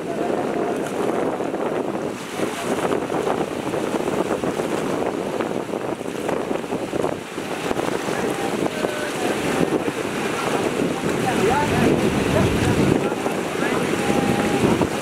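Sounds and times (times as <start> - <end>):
waves lapping on rocks: 0.0 - 15.0
wind buffeting microphone: 0.0 - 15.0.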